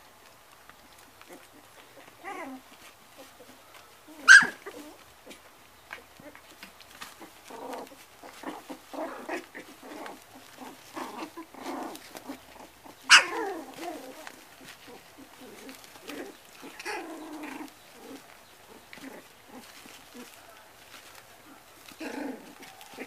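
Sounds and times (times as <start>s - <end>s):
puppies growling and grunting: 0.9s - 23.0s
puppy yelping: 1.3s - 3.5s, 4.1s - 5.4s, 6.2s - 23.0s.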